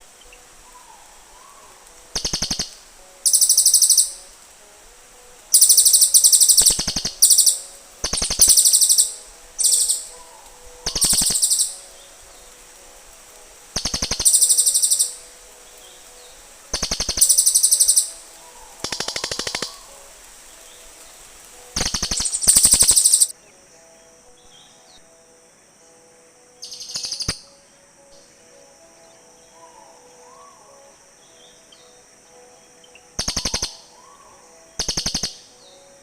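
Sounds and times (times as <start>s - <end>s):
birds calling with rapid trills: 0.0s - 25.0s, 26.6s - 27.6s, 28.2s - 36.0s.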